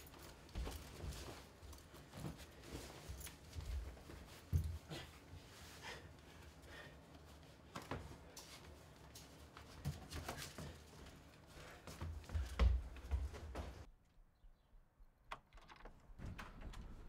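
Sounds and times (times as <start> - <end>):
clothing rustling: 0.0 - 13.9.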